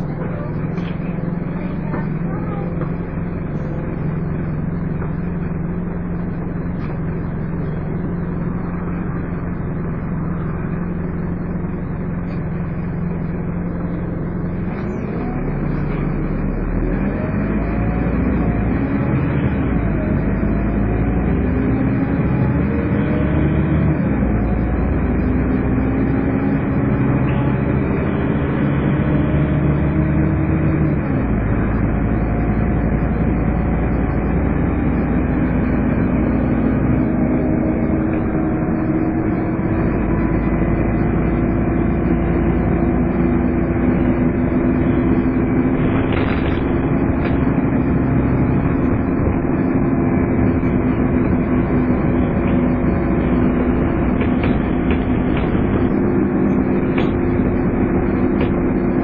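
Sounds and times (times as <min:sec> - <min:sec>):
bus diesel engine accelerating: 0:00.0 - 0:59.0.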